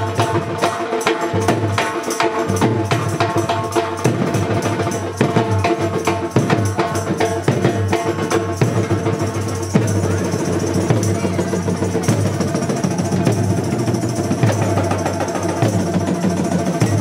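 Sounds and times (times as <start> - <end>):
drum kit fast beat: 0.0 - 17.0.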